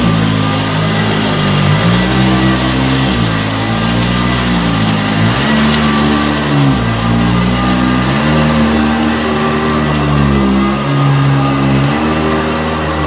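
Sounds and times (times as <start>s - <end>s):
vacuum cleaner on carpet: 0.0s - 13.0s.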